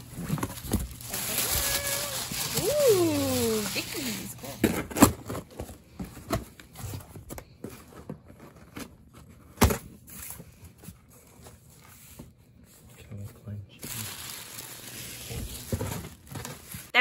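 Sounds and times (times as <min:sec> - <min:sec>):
cardboard and paper rustling: 0:00.0 - 0:17.0.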